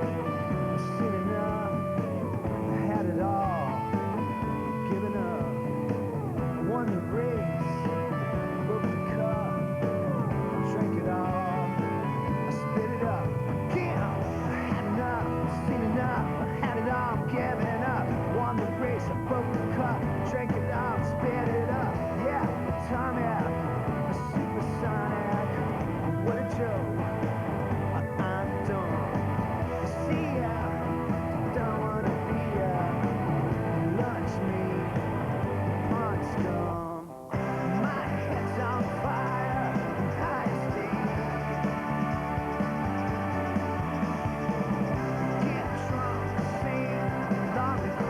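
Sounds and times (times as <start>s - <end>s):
rock music with steady beat: 0.0s - 48.0s.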